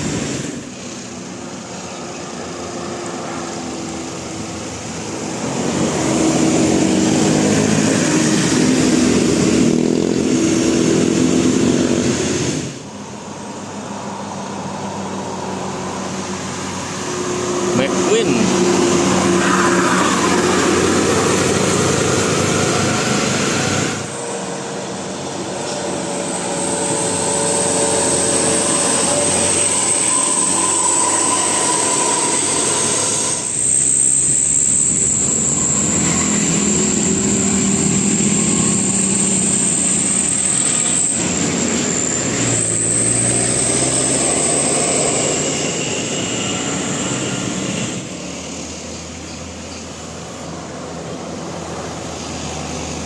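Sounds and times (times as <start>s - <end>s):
buses passing close by: 0.0s - 53.0s
road noise: 0.0s - 53.0s.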